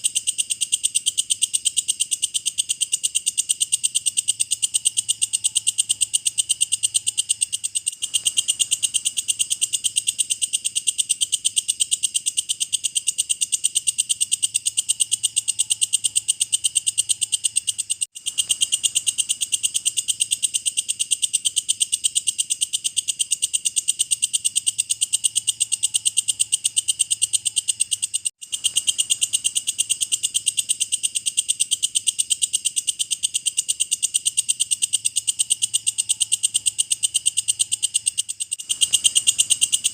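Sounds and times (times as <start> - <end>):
bush cricket pulsing call: 0.0 - 39.9.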